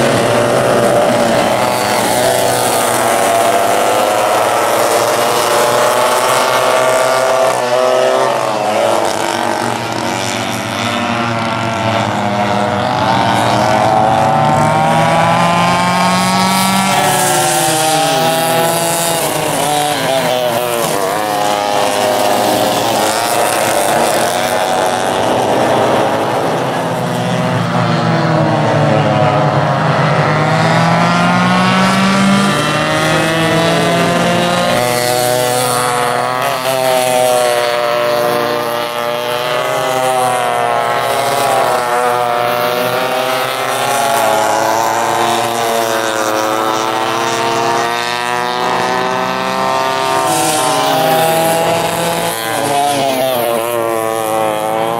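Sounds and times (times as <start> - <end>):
kart engines racing past: 0.0 - 54.9.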